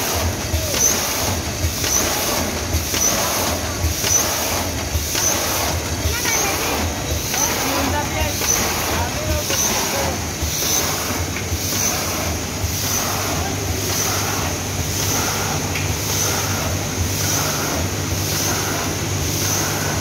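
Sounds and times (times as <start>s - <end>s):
machine hiss and clatter: 0.0s - 20.0s
packing machine motor hum: 0.0s - 20.0s.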